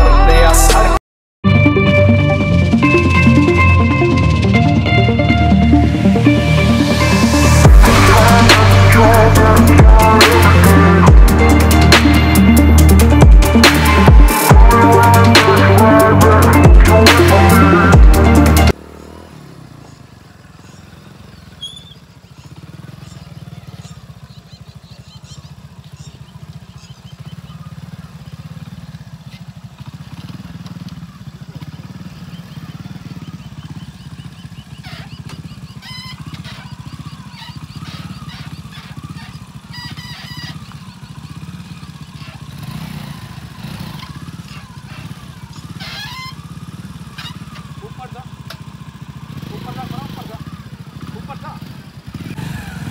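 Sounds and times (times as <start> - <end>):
motorcycle engine at low revs: 2.1 - 52.9.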